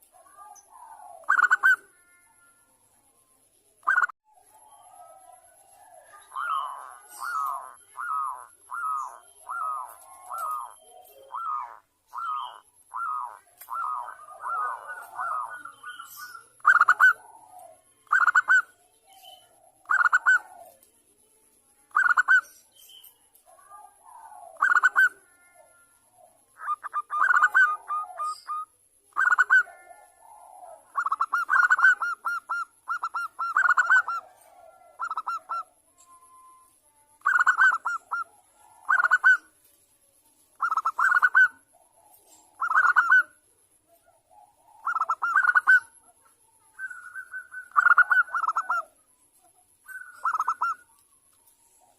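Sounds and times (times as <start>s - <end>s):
dove cooing: 0.0s - 2.5s, 3.8s - 20.9s, 23.4s - 36.6s, 37.2s - 39.6s, 40.5s - 49.0s, 49.8s - 51.0s.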